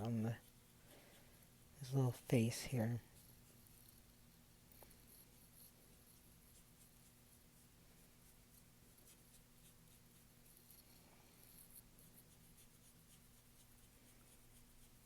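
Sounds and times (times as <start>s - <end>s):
low steady hum: 0.0s - 15.0s
paintbrush scratching on canvas: 0.0s - 15.0s.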